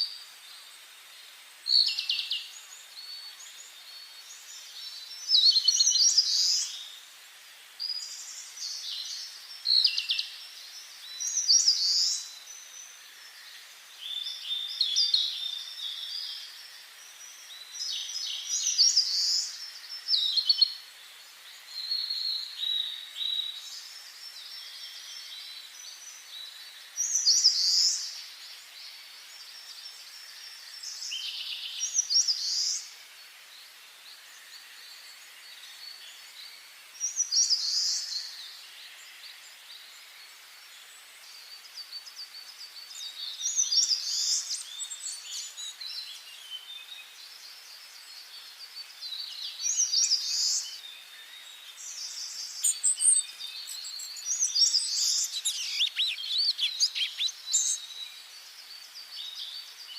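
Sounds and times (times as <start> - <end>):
faint steady hiss: 0.0 - 59.9
songbirds chirping: 0.0 - 59.9.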